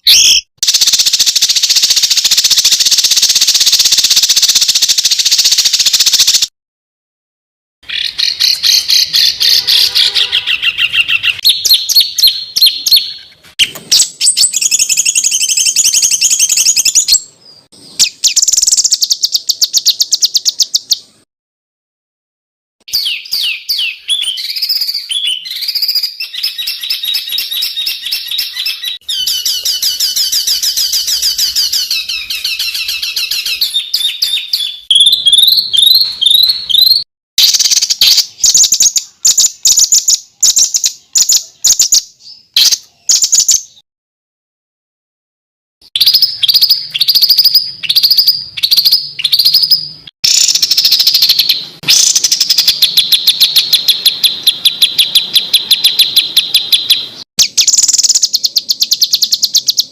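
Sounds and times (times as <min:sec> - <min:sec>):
songbirds singing harsh notes: 0:00.0 - 0:06.5, 0:07.8 - 0:21.2, 0:22.8 - 0:43.8, 0:45.8 - 0:59.9.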